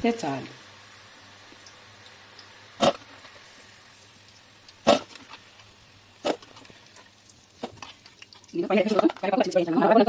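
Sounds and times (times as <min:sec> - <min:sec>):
faint steady background noise: 0:00.0 - 0:10.0.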